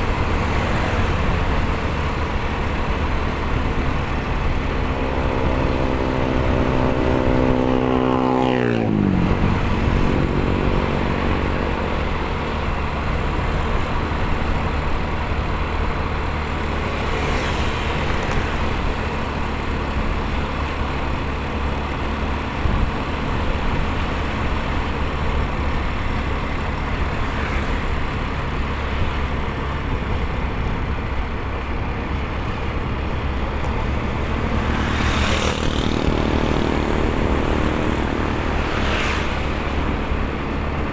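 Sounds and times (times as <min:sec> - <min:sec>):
motorcycle engine running: 0:00.0 - 0:40.9
road noise: 0:00.0 - 0:40.9
rushing wind: 0:00.0 - 0:40.9.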